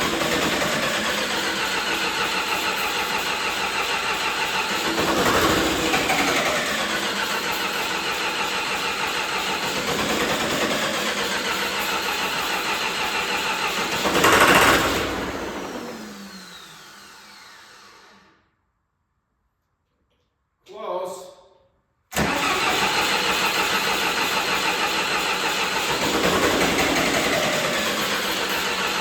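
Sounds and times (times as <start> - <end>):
diesel engine cranking: 0.0 - 16.4, 22.1 - 29.0.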